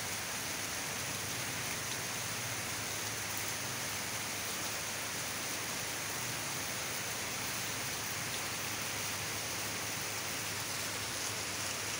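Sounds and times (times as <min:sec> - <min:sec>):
rain falling on leafy trees: 0:00.0 - 0:11.9.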